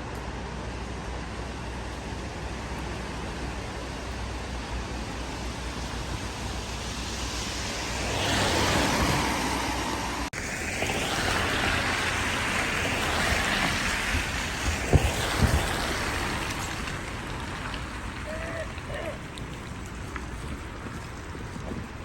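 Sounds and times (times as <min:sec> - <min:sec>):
street traffic noise: 0:00.0 - 0:22.0
vehicle passing: 0:01.5 - 0:21.4.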